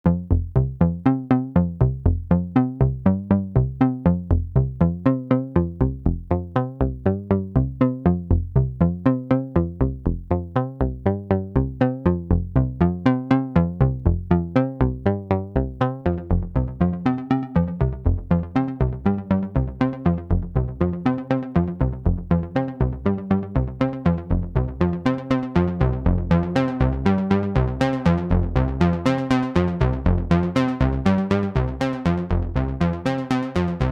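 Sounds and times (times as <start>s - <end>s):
synthesizer bass line: 0.1s - 33.9s.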